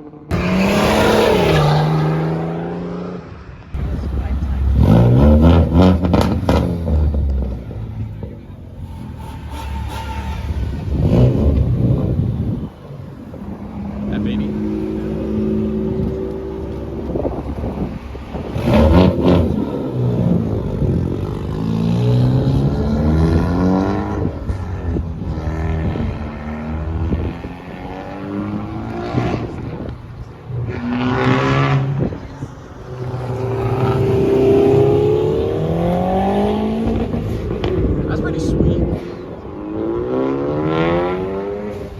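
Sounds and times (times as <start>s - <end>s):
car engines accelerating hard: 0.0s - 41.9s.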